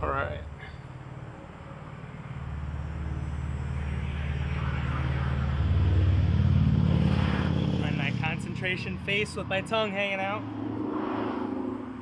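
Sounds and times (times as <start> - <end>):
vehicle engine passing by: 0.8 - 12.0.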